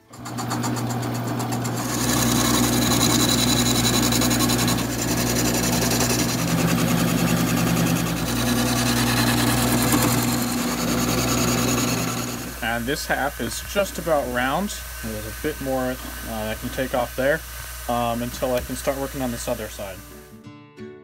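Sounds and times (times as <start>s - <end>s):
wood lathe motor hum: 0.0s - 20.2s
turning tool scraping wood: 0.1s - 20.1s.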